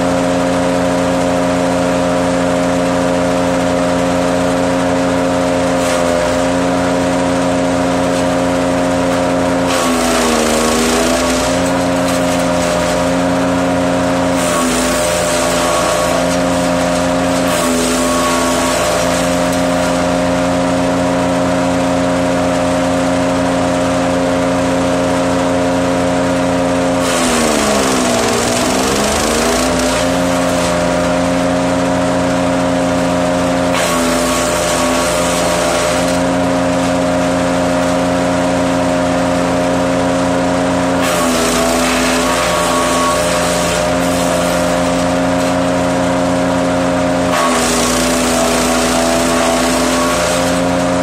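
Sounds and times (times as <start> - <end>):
petrol wood chipper engine: 0.0 - 51.0
wood crunching in chipper: 0.0 - 51.0.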